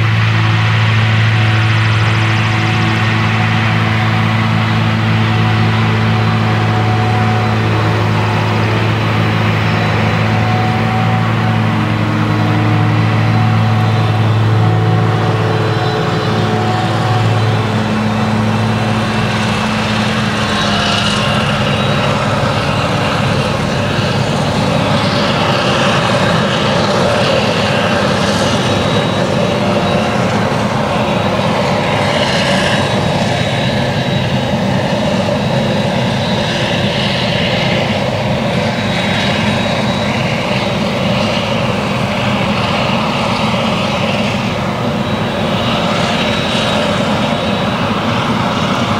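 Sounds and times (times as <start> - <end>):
chopping and blowing rush: 0.0 - 48.9
forage harvester running under load: 0.0 - 48.9.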